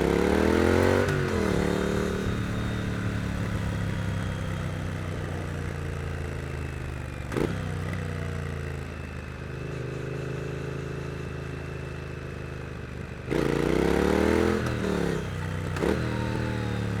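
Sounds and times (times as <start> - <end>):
motorcycle engine revving: 0.0 - 12.5, 13.2 - 17.0.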